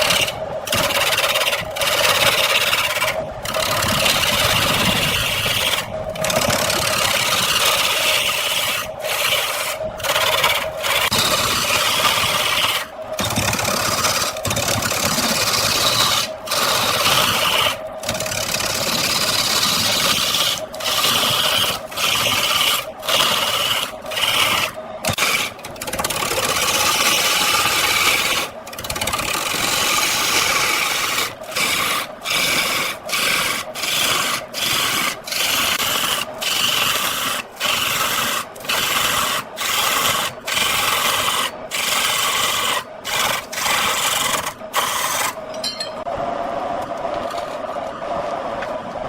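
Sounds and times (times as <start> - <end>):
lathe tool scraping wood: 0.0 - 45.5.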